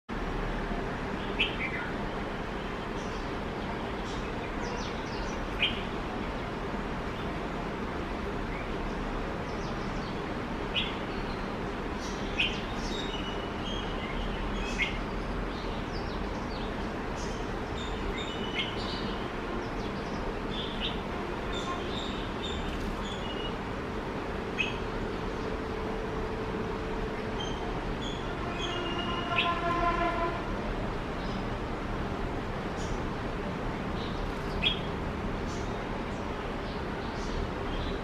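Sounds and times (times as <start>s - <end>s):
steady background noise: 0.1s - 38.0s
birds chirping: 1.2s - 7.4s, 8.4s - 30.4s, 33.9s - 38.0s.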